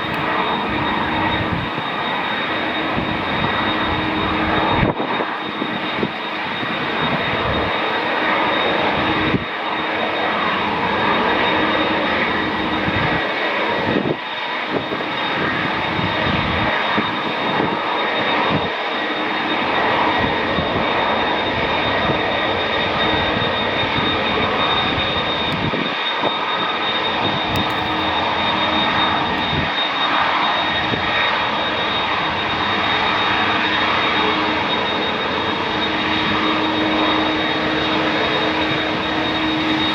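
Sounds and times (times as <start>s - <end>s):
high whine: 0.0s - 39.9s
jet engines running: 0.0s - 39.9s.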